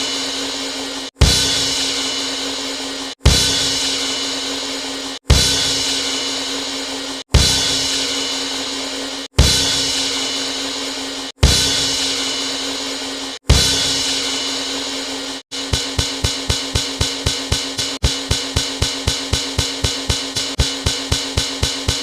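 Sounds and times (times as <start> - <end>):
drum hit with crash cymbal: 0.0 - 22.0.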